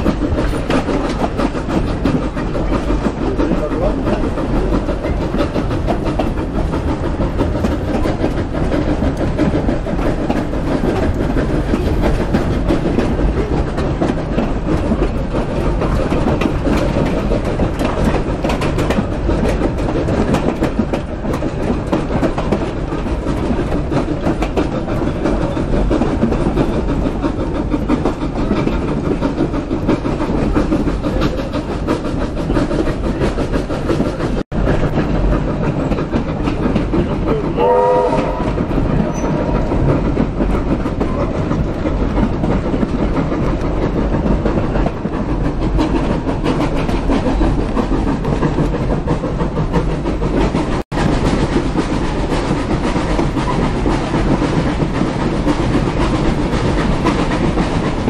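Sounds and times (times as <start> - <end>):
railway carriage rumbling: 0.0 - 58.0
wheels clicking over rail joints: 0.0 - 58.0.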